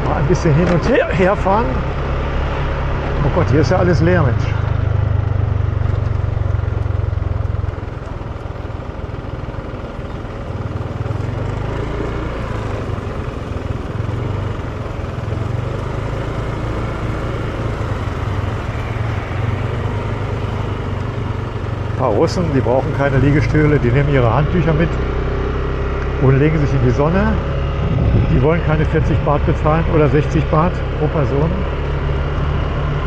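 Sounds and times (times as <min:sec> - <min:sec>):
motor scooter engine running: 0:04.6 - 0:33.0.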